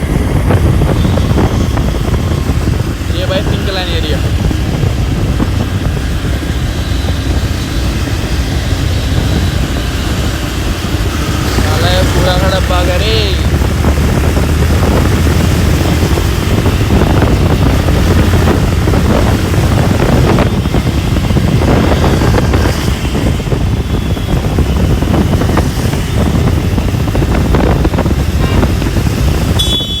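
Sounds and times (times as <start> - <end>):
motorcycle running: 0.0 - 30.0
road noise: 0.0 - 30.0
wind buffeting microphone: 0.0 - 30.0.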